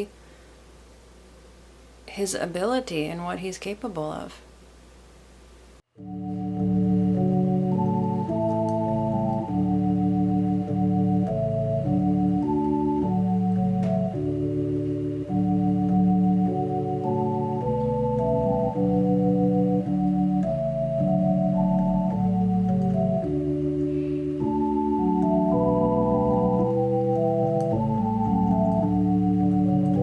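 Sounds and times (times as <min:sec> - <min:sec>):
slow organ chords: 0:05.9 - 0:30.0.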